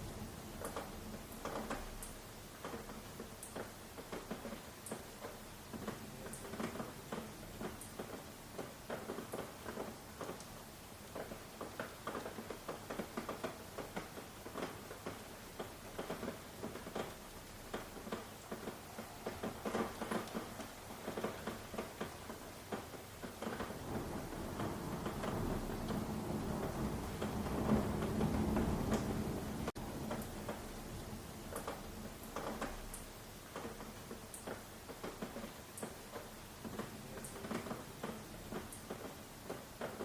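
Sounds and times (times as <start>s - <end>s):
rain falling: 0.0s - 40.0s
raindrops tapping on a surface: 0.0s - 40.0s.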